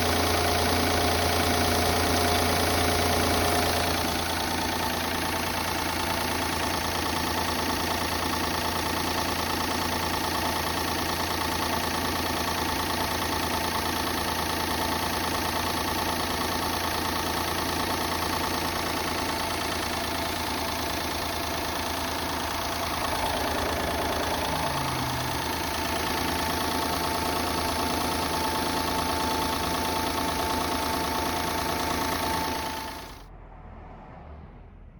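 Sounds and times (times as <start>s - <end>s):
car engine idling: 0.0s - 33.3s
high engine whine: 0.0s - 33.4s.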